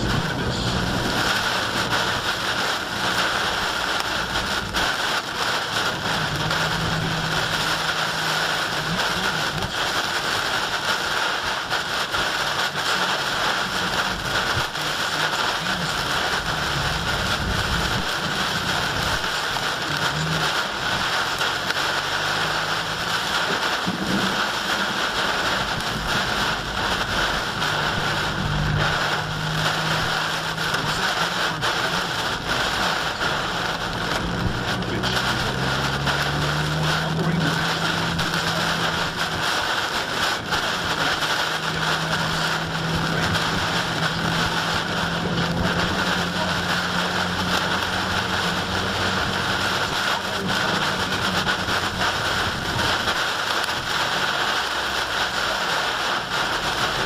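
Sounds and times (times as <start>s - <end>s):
heavy rain on car windshield: 0.0s - 57.0s.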